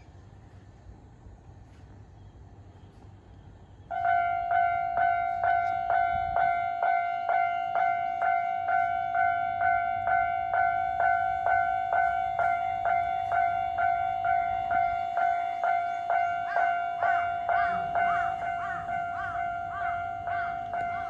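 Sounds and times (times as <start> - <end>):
level crossing alarm dinging: 3.9 - 21.0.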